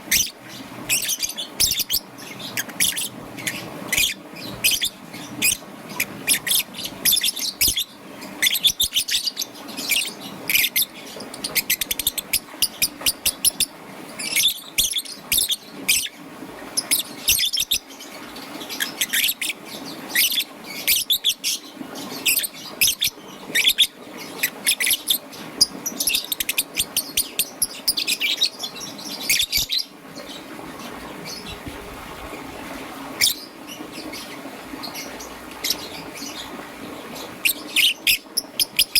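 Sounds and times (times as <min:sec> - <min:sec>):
lovebird chirping: 0:00.1 - 0:16.1, 0:16.8 - 0:31.8, 0:37.1 - 0:38.9.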